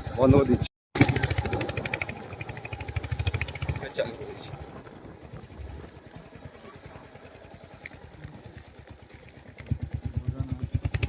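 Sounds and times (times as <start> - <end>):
vehicle engine idling: 1.0 - 11.0.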